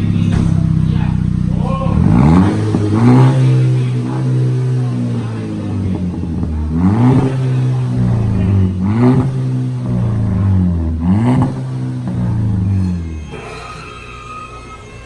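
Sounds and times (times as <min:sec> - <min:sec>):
car engine idling and revving: 0:00.0 - 0:14.6.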